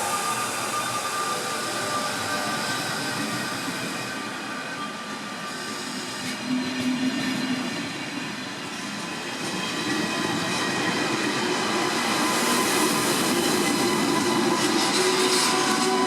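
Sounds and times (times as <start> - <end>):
train running on track: 0.0 - 16.0.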